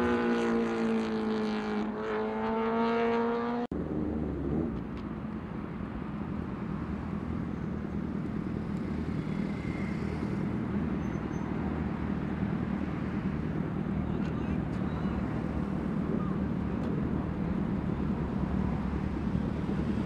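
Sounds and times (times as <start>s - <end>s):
motorcycle engines rumbling at low revs: 0.0s - 20.0s.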